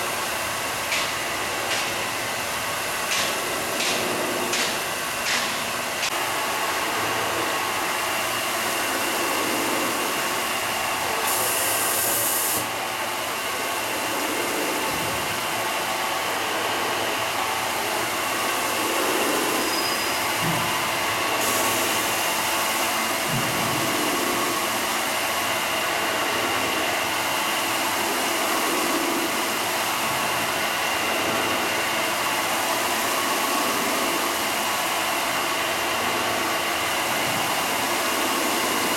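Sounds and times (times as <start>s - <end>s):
stone polishing machine whirring hiss: 0.0s - 38.9s.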